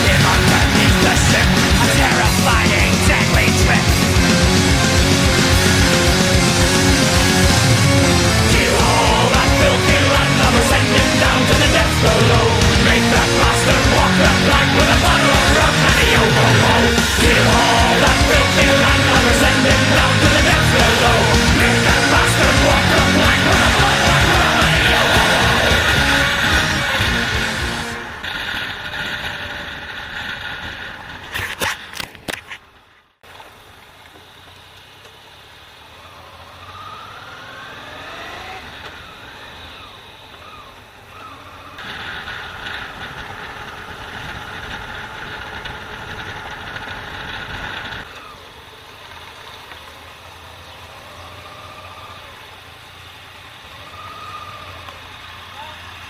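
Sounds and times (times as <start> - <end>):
rushing noise: 0.0 - 32.0, 35.4 - 49.1
motorcycle engine accelerating: 0.0 - 32.1, 35.4 - 56.0.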